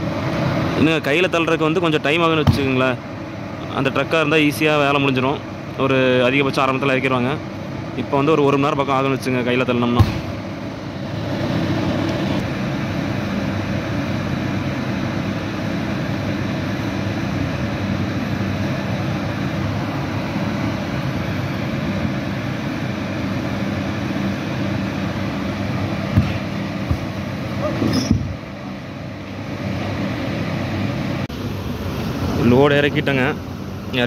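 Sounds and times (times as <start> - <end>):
steady engine drone: 0.0 - 34.0.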